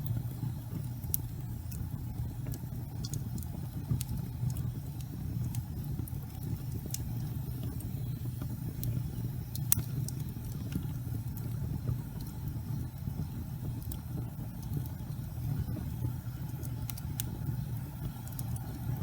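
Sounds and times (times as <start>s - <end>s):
gas fireplace flames burning: 0.0s - 19.0s.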